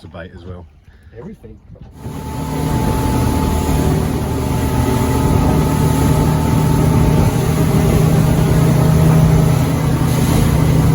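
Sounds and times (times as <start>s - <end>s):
outboard engine running: 1.9s - 10.9s.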